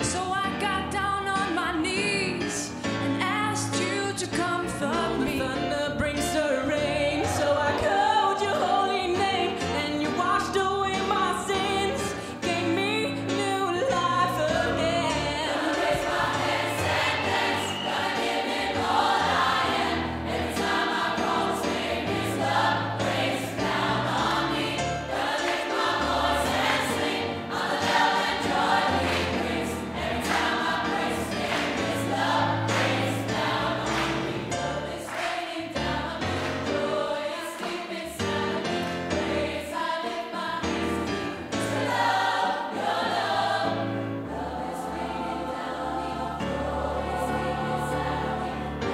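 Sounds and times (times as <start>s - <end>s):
gospel choir singing: 2.3s - 48.9s.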